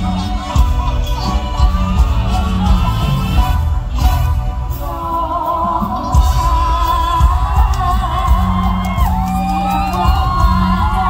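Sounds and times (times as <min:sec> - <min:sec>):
band with heavy bass beat: 0:00.0 - 0:11.0
woman singing: 0:00.0 - 0:11.0.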